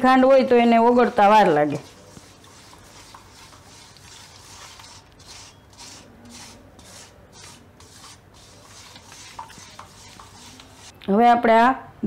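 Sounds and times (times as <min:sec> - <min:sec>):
spatula scraping steel bowl: 0:00.5 - 0:11.0.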